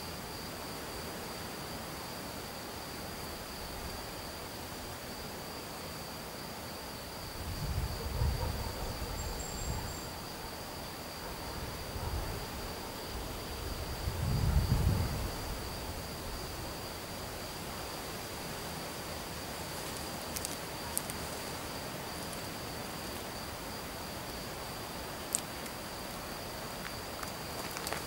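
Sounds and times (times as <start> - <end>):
high-pitched insect tone: 5.1 - 28.0.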